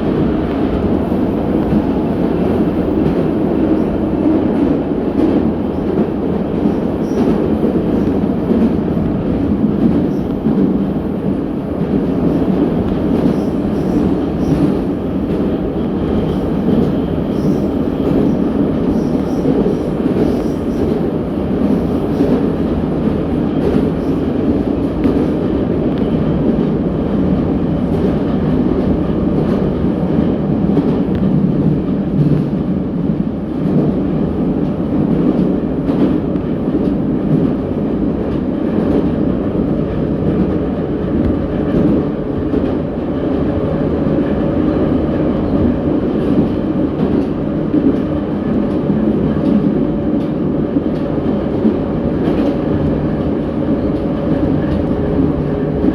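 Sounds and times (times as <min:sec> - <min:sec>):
clickety-clack of rail joints: 0:00.0 - 0:55.9
train wheels rumbling on rail: 0:00.0 - 0:55.9.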